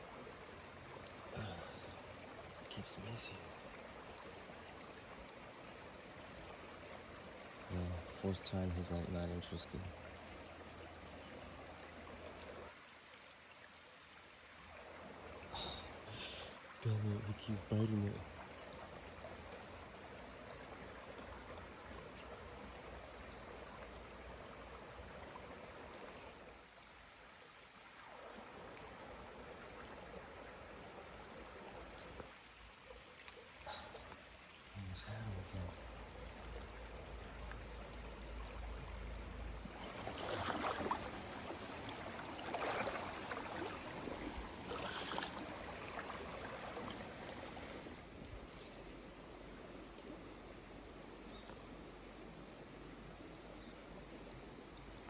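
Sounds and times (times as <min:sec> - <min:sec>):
creek trickling over stones: 0:00.0 - 0:55.0.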